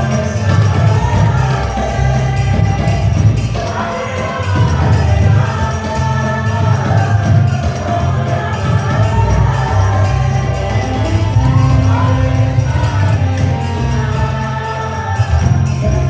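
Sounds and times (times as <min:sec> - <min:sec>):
drum: 0:00.0 - 0:16.0
group chanting devotional song: 0:00.0 - 0:16.0
jingling beat: 0:00.0 - 0:16.0
low drone: 0:00.0 - 0:16.0.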